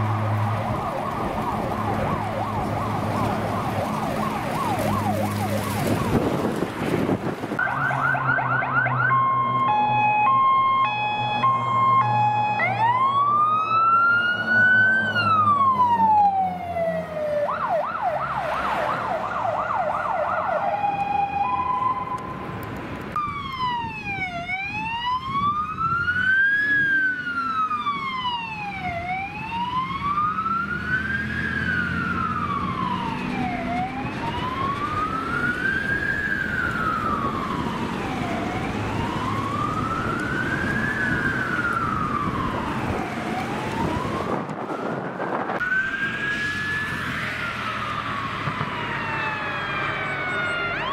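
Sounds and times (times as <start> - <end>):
fire engine siren wailing: 0.0 - 50.9.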